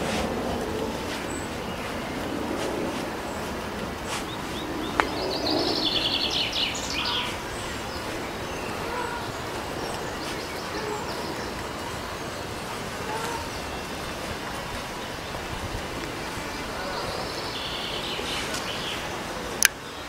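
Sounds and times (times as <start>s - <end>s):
background hiss: 0.0s - 20.0s
songbird chirping: 0.0s - 20.0s.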